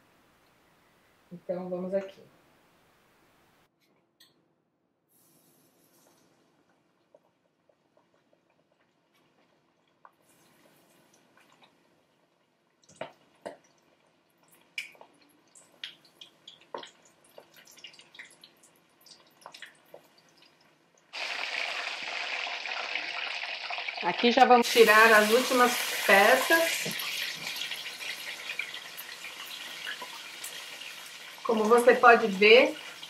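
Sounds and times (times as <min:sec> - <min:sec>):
oil frying sizzle: 0:05.2 - 0:33.0.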